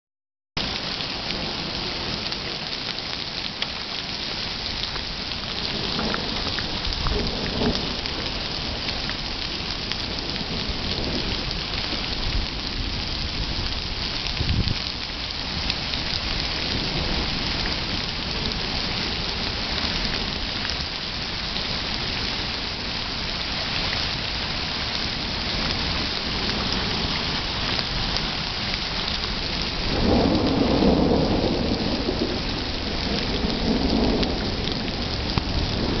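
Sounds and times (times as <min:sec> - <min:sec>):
hail and heavy rain falling: 0:00.6 - 0:36.0.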